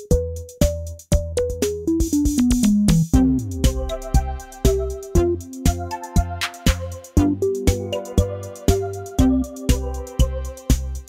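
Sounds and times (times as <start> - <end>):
drum machine beat: 0.0 - 11.0.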